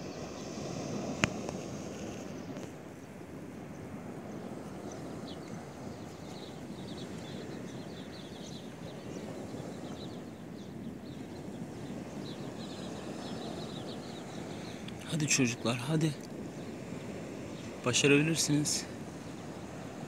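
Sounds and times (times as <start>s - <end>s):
sea surf washing: 0.0s - 20.0s
small birds chirping: 0.0s - 20.0s.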